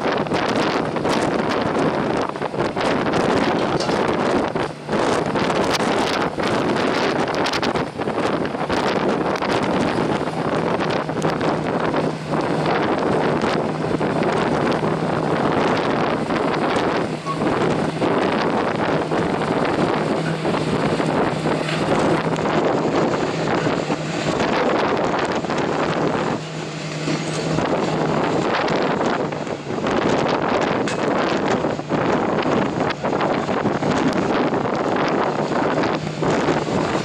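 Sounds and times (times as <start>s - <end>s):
low machinery drone: 0.0s - 37.0s
wind buffeting microphone: 0.0s - 37.0s.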